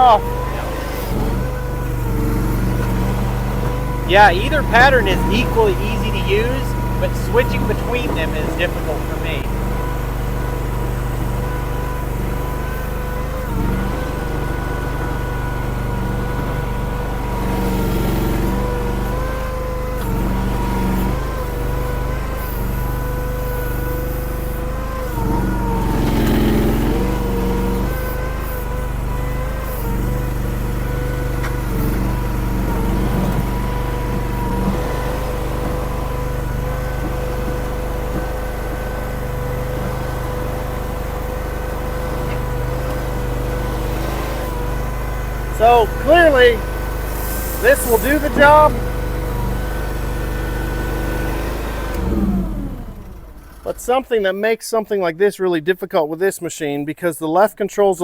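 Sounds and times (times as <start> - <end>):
hydraulic whine: 0.0 - 54.0
skid steer engine drone: 0.0 - 54.2.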